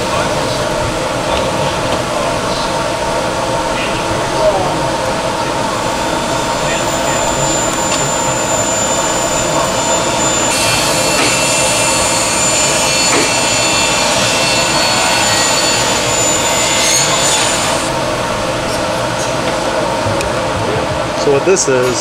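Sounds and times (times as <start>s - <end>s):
machine hum with hiss: 0.0s - 22.0s.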